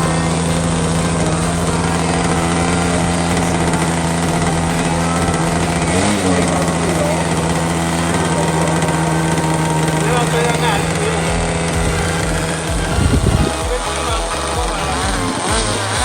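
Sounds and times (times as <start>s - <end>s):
model airplane engine running: 0.0s - 16.0s.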